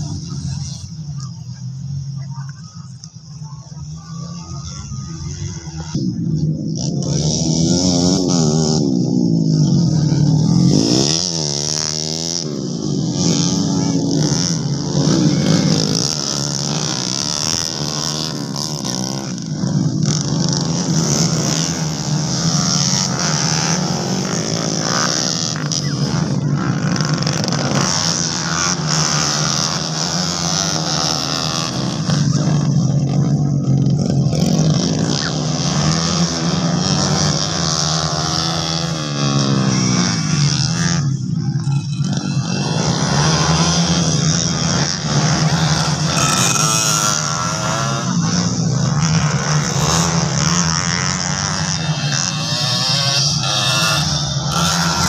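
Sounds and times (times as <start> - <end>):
racing motorcycle engines revving: 0.0 - 55.0.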